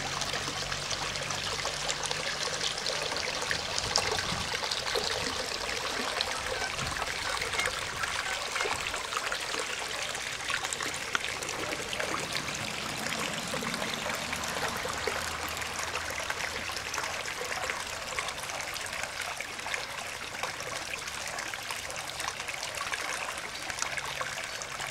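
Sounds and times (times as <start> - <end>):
creek water trickling over rocks: 0.0 - 24.9.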